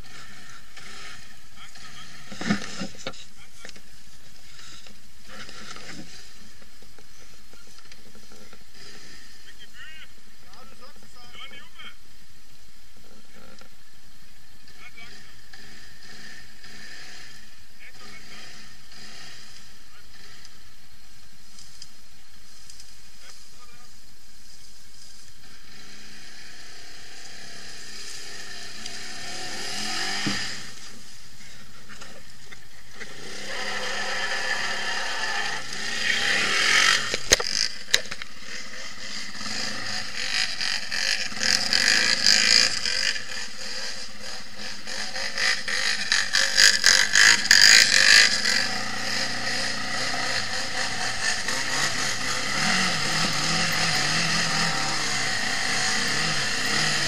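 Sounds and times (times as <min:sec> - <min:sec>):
off-road engines revving: 0:00.0 - 0:57.0.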